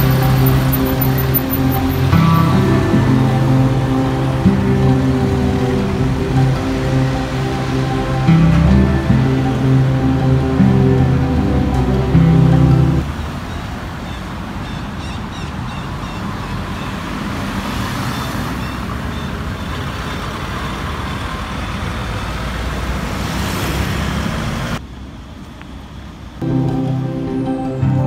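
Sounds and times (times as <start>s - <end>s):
cars driving past: 0.0s - 26.8s.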